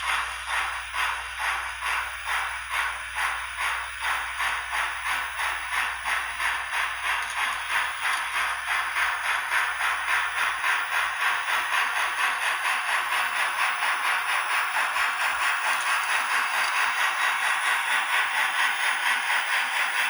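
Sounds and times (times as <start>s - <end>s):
model train steam chuff: 0.0s - 20.0s.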